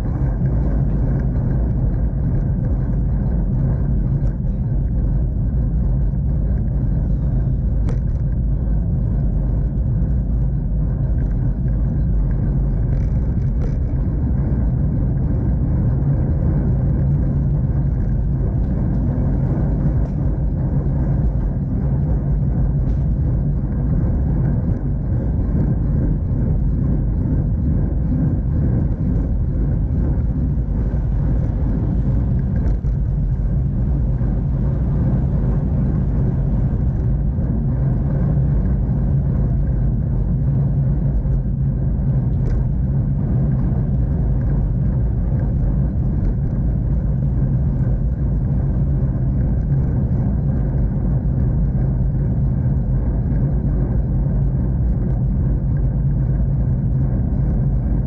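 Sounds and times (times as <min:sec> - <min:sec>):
bicycle tyre noise: 0:00.0 - 0:58.0
muffled wind rumble: 0:00.0 - 0:58.0.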